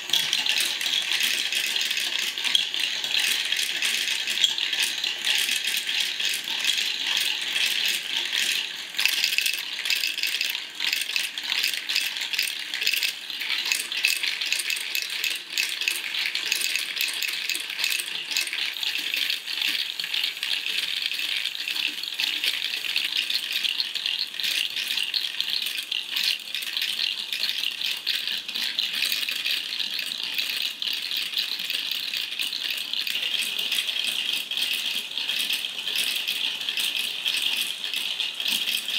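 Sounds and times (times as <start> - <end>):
plastic balls rattling down tracks: 0.0 - 38.9.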